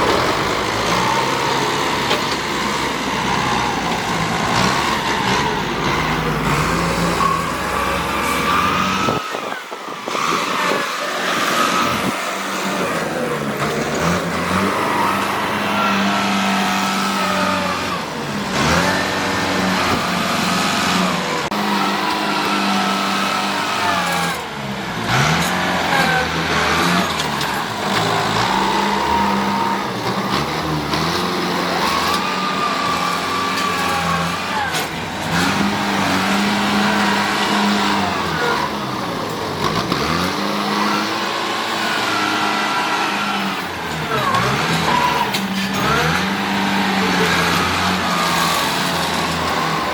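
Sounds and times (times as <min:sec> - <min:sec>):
vehicle motor running: 0:00.0 - 0:49.9.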